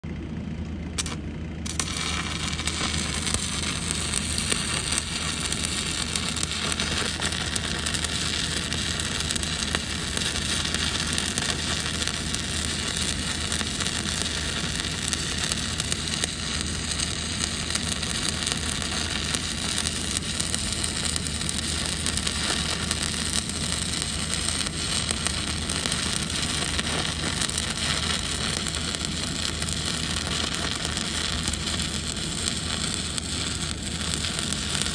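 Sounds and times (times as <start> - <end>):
steady low hum: 0.1 - 34.9
welding arc crackling: 1.0 - 34.9.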